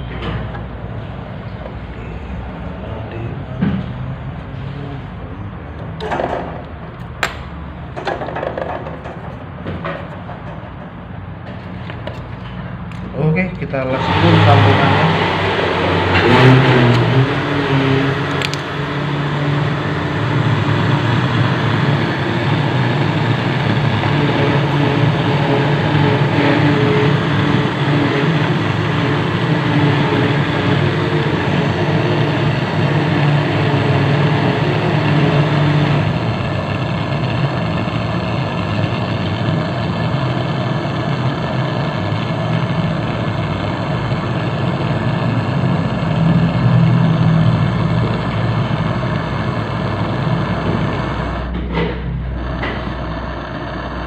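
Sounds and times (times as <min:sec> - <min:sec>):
gas torch hissing and rumbling: 0:00.0 - 0:54.0.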